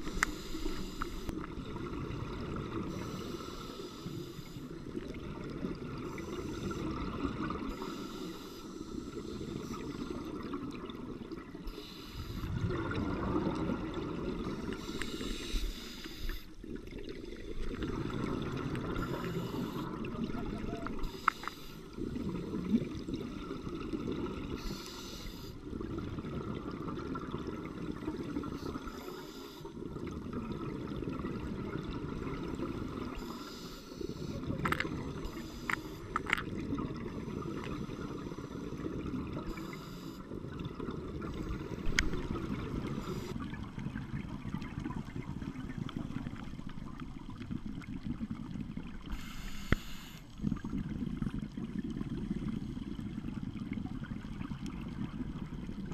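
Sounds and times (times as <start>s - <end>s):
underwater bubbles gurgling: 0.0s - 55.9s.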